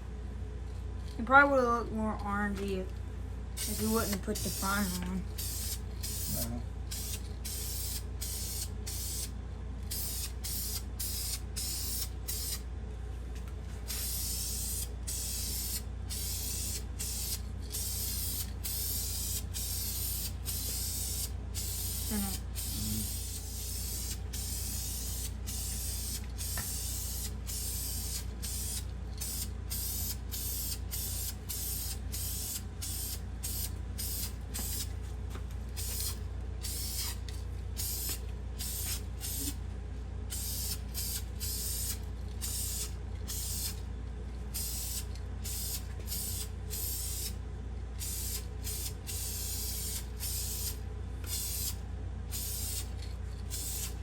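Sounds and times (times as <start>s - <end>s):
spray paint hissing: 3.6s - 9.3s, 9.9s - 12.6s, 13.8s - 34.9s, 35.7s - 39.6s, 40.3s - 43.8s, 44.5s - 47.4s, 48.0s - 52.9s, 53.5s - 54.0s.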